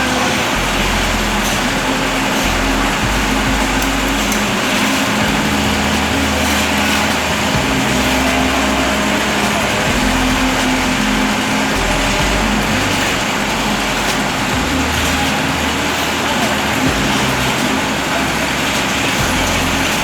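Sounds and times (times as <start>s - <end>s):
engine running with a roar: 0.0s - 20.0s.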